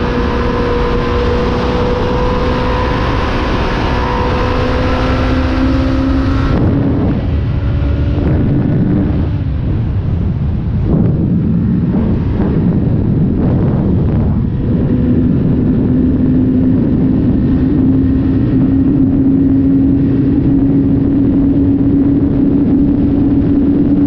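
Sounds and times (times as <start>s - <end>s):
heavy wind rush: 0.0s - 24.0s
motorcycle engine accelerating: 0.0s - 24.0s.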